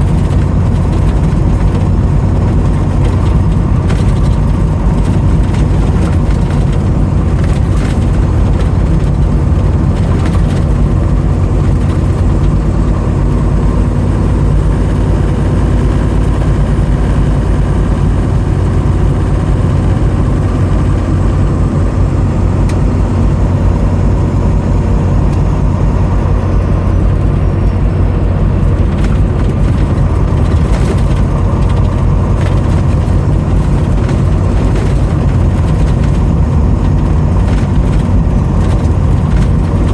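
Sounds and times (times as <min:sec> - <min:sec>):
vehicle engine low drone: 0:00.0 - 0:39.9.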